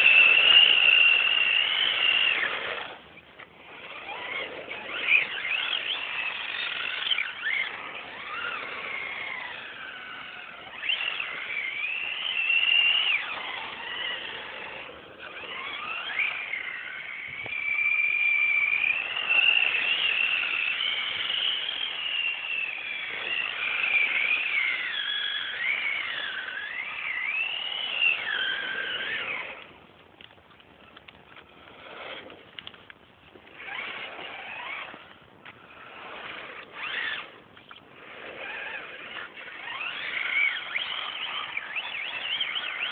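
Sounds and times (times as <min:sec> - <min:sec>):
electric motor and gears whining: 0:00.0 - 0:42.9
faint scattered noises: 0:00.0 - 0:42.9.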